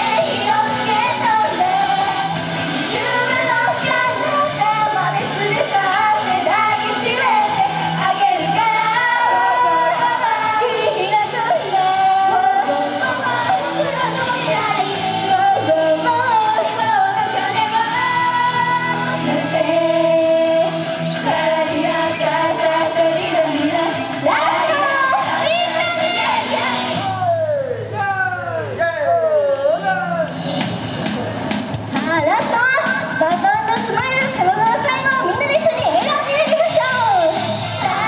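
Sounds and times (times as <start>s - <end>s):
female group singing pop song: 0.0s - 27.0s, 32.0s - 38.0s
pop backing music: 0.0s - 38.0s.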